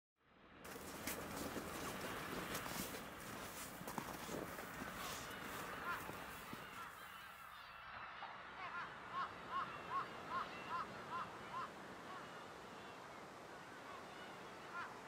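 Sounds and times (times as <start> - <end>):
bird calling: 0.7 - 7.7, 9.0 - 15.0.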